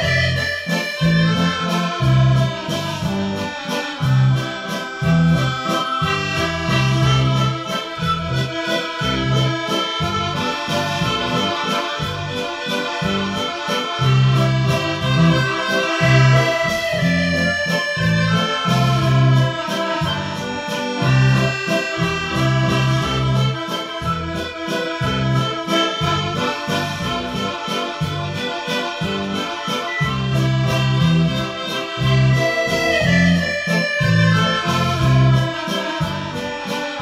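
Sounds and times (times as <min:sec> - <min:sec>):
instrumental background music: 0:00.0 - 0:37.0.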